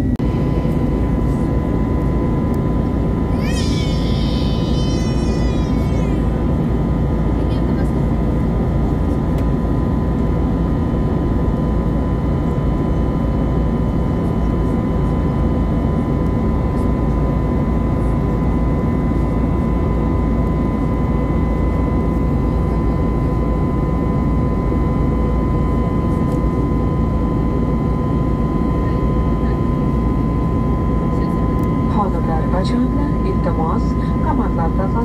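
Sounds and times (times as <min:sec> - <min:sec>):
deep rumble of jet engine: 0:00.0 - 0:35.0
high engine whine: 0:00.0 - 0:35.0.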